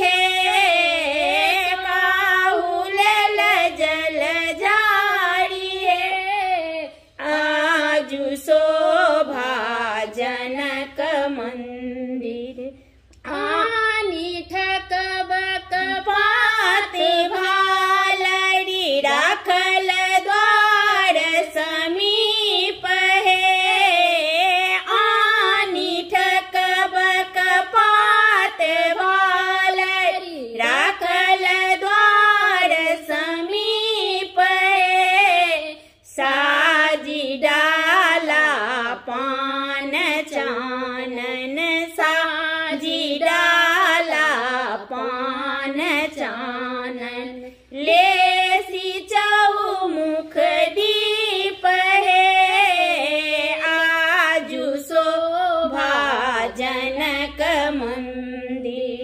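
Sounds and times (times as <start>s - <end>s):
women singing together: 0.0s - 59.0s.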